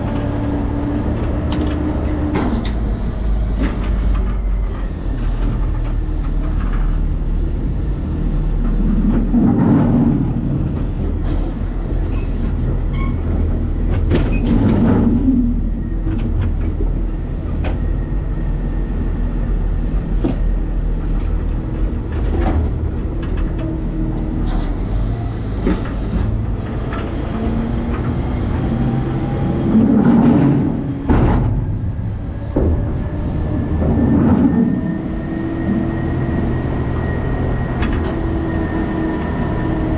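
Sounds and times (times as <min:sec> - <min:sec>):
garbage truck rumble: 0:00.0 - 0:39.9.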